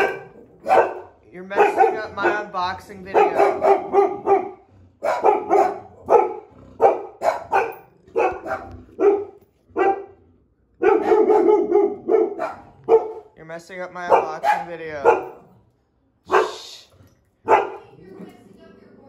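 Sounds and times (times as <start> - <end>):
dogs barking: 0.0 - 10.2, 10.8 - 13.4, 14.0 - 15.6, 16.3 - 16.8, 17.4 - 18.0.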